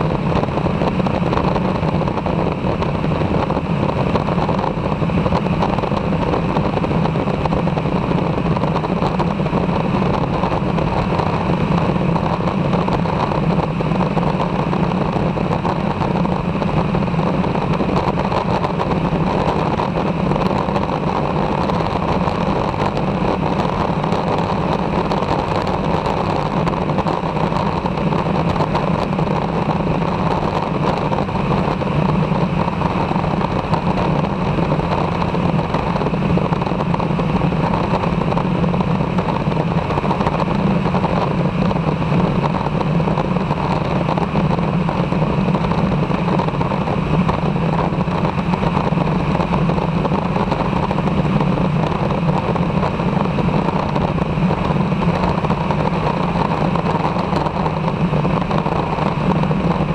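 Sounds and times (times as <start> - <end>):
light aircraft engine droning: 0.0 - 59.9
rush of airflow: 0.0 - 59.9.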